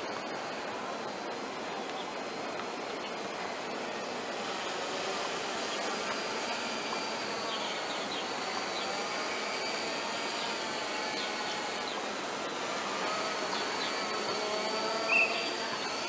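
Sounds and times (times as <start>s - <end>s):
drone propeller buzz: 2.5s - 16.0s.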